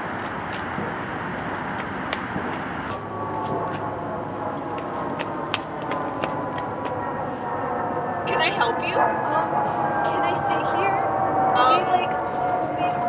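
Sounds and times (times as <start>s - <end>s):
distant traffic rumble: 0.0s - 13.0s
droning engine hum: 0.0s - 13.0s.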